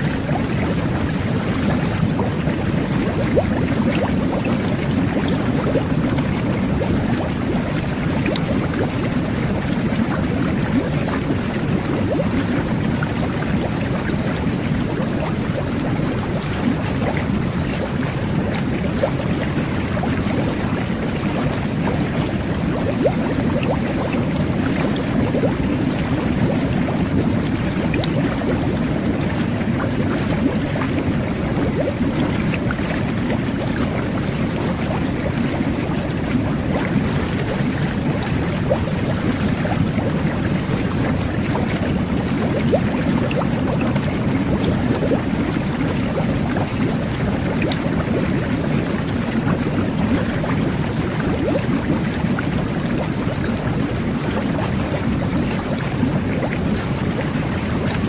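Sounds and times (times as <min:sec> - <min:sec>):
churning aerated water: 0:00.0 - 0:58.0
small bubbles popping: 0:00.0 - 0:58.0.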